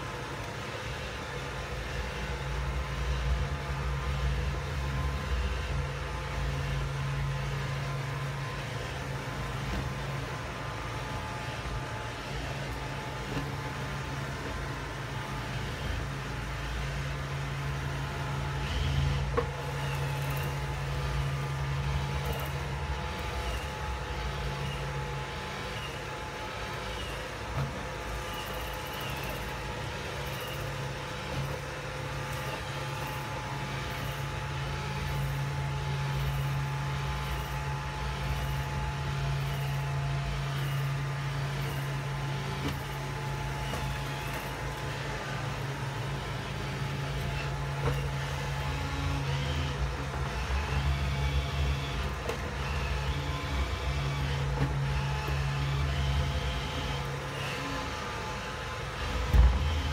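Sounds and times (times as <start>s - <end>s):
robot vacuum humming: 0.0s - 59.9s.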